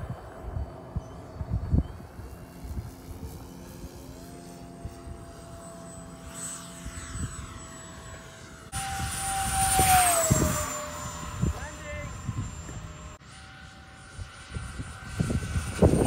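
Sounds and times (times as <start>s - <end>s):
electric ducted fan whining: 0.0s - 16.0s.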